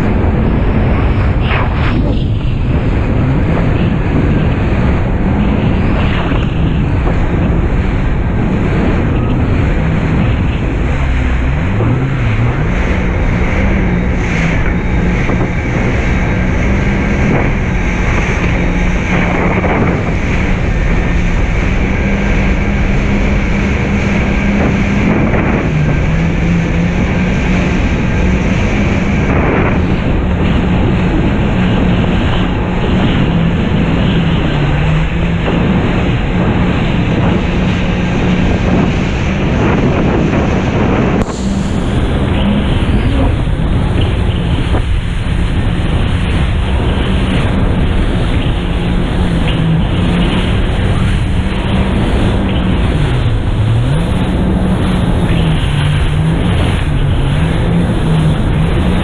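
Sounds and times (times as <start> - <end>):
jet ski engine running: 0.0 - 59.0
wind buffeting microphone: 0.0 - 59.0.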